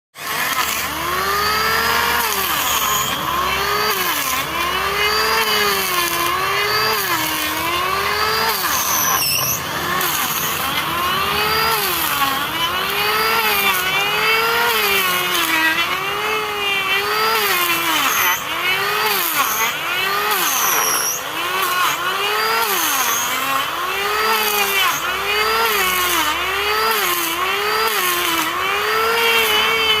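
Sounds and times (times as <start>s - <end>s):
electric planer cutting wood: 0.2s - 30.0s.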